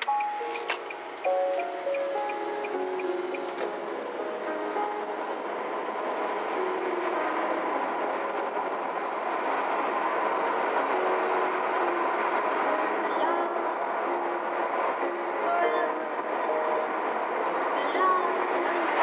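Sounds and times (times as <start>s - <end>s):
faint music: 0.0s - 19.0s
tyre and road noise: 0.0s - 19.0s.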